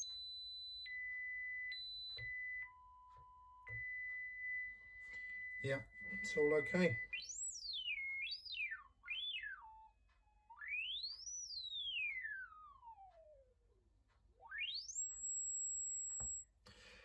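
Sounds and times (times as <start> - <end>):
sine tone sweeping up and down: 0.0 - 16.5.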